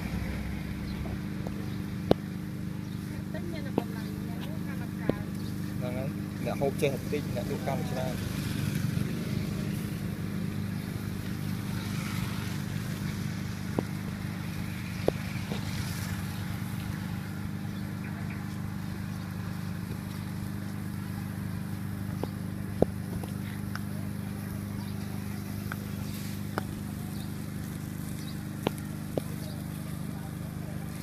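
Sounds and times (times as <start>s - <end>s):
small engine humming: 0.0s - 31.0s.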